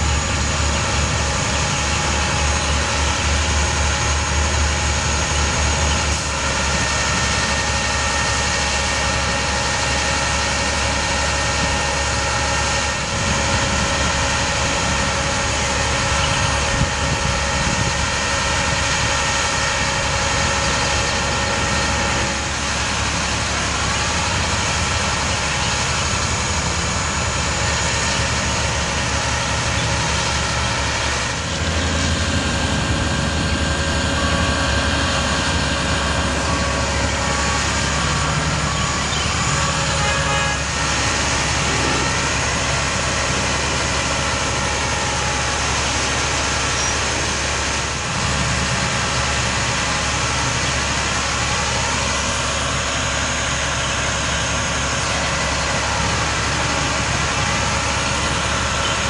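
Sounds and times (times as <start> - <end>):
hydraulic whine: 0.0 - 59.0
truck engine running: 0.0 - 59.0.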